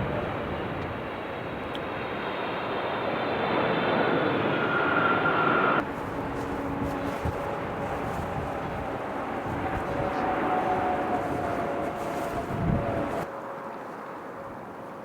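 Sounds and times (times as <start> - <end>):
jet engine turbine whine: 0.0 - 13.3.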